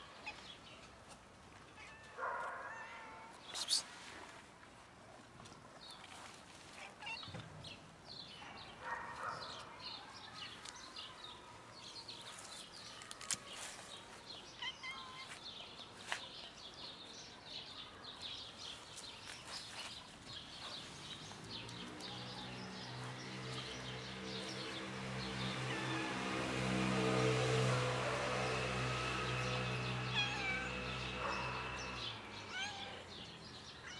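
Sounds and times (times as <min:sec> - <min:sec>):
small birds chirping: 0:01.7 - 0:04.0, 0:05.5 - 0:33.9.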